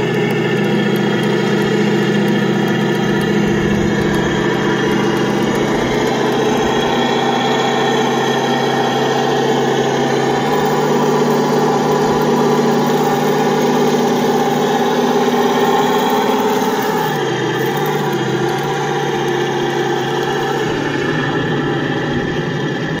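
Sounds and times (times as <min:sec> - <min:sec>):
simulated tank engine drone: 0:00.0 - 0:23.0.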